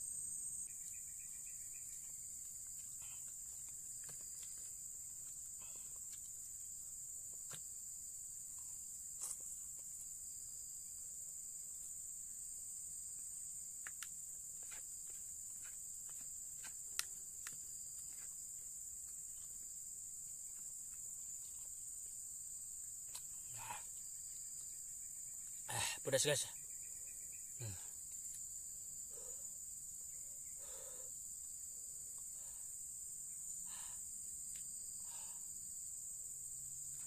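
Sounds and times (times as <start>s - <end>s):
high-pitched insect drone: 0.0s - 7.2s, 7.8s - 37.0s.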